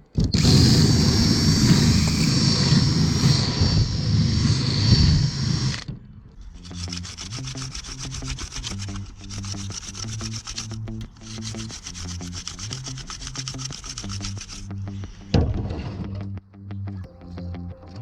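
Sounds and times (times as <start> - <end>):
drill bit grinding metal: 0.1 - 15.4.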